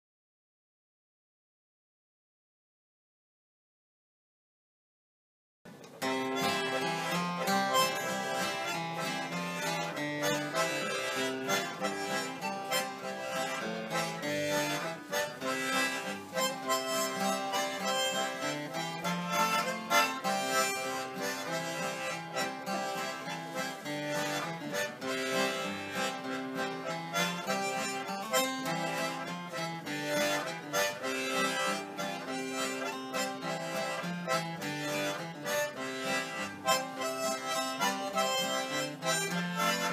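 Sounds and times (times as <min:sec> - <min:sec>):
harmonica melody: 0:06.0 - 0:39.9
strummed acoustic guitar: 0:06.0 - 0:39.9.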